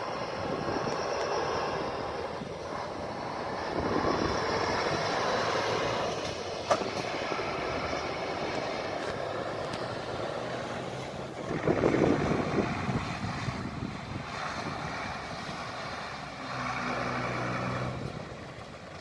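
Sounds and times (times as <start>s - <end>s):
fire engine diesel engines: 0.0s - 19.0s.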